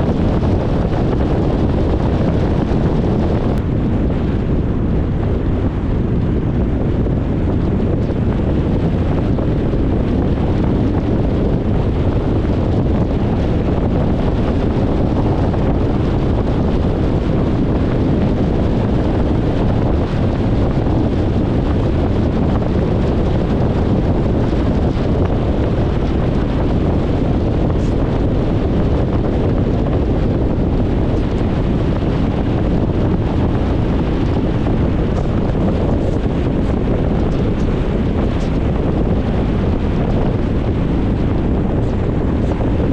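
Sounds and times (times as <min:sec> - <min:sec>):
car road noise: 0:00.0 - 0:42.9.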